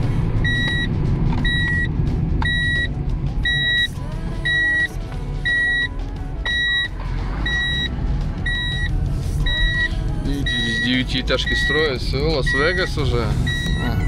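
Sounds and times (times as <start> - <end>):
car engine and road rumble: 0.0 - 14.0
high electronic warning beep: 0.4 - 5.9, 6.5 - 14.0.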